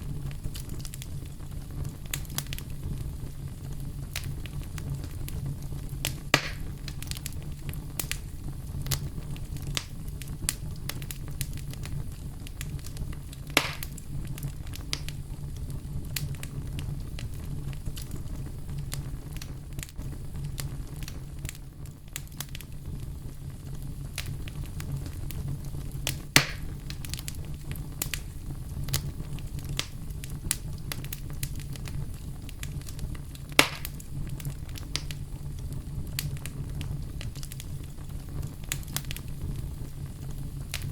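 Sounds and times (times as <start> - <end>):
fire crackling: 0.0 - 40.9
fire popping: 0.0 - 40.9
firewood burning: 0.0 - 40.9.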